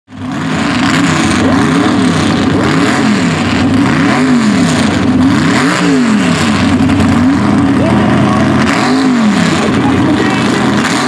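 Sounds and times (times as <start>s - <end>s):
buggy engines revving: 0.1s - 11.0s.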